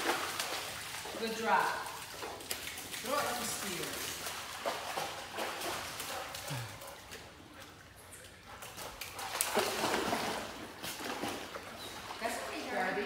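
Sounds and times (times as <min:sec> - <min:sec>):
dog splashing through water: 0:00.0 - 0:13.0.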